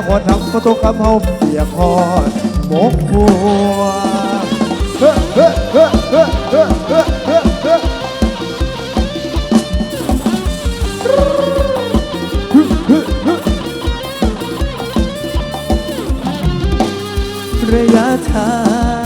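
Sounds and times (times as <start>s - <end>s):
lead melody with bending notes: 0.0s - 19.0s.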